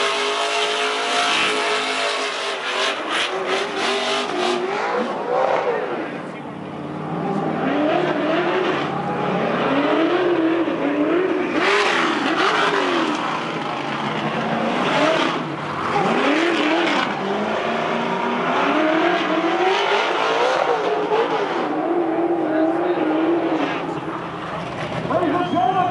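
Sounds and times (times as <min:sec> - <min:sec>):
truck engine revving: 0:00.0 - 0:25.3.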